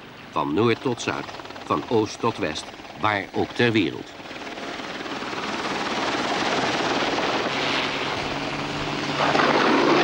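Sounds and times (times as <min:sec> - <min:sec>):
helicopter rotor chop: 0:00.4 - 0:10.0.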